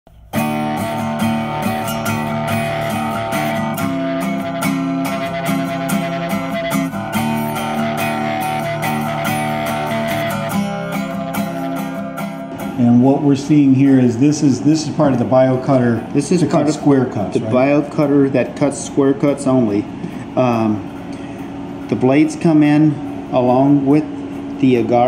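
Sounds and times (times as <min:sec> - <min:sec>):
guitar instrumental music: 0:00.1 - 0:25.0.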